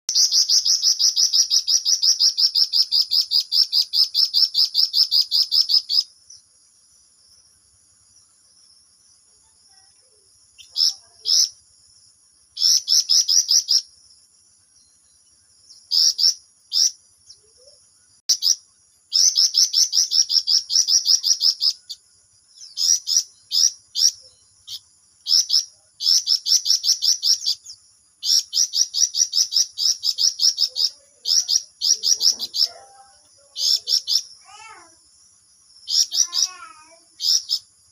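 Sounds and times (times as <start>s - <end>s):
songbird trilling: 0.1s - 6.5s, 9.4s - 11.7s, 12.5s - 14.1s, 14.8s - 35.0s, 35.8s - 37.9s.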